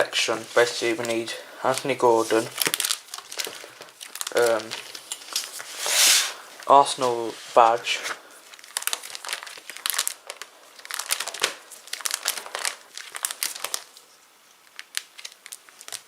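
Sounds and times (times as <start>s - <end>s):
plastic and card crinkling: 0.0s - 16.0s.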